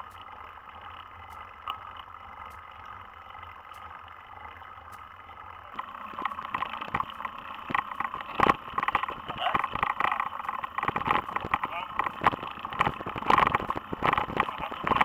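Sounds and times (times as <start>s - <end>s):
bike rattling on rough track: 0.0s - 15.0s.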